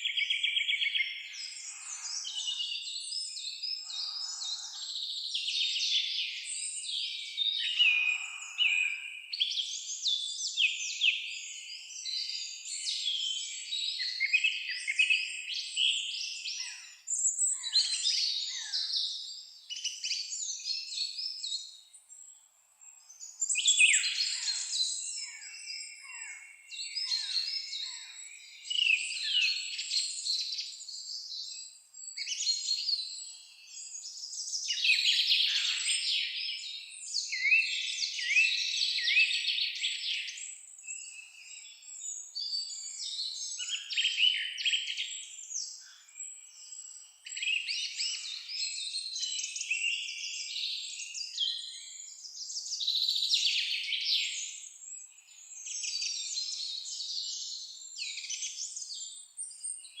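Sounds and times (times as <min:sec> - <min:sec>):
songbirds singing and chirping: 0:00.0 - 1:00.0.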